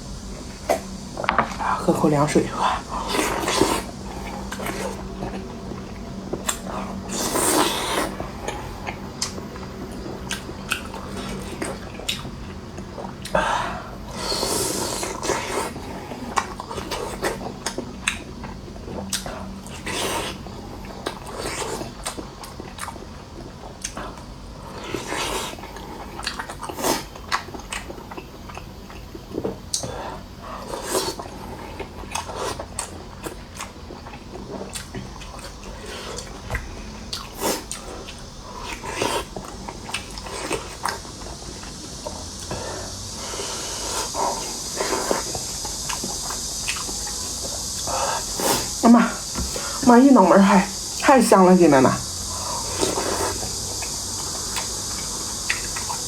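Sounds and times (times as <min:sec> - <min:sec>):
person chewing food: 0:02.5 - 0:49.8, 0:52.0 - 0:56.0.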